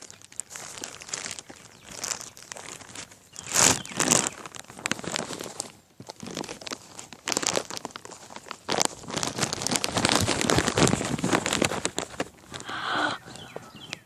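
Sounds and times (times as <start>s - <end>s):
crinkling and crunching rustle: 0.0s - 14.0s.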